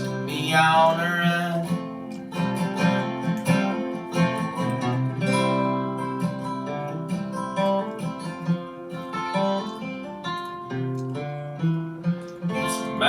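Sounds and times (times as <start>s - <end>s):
acoustic guitar plucking and strumming: 0.0s - 13.0s.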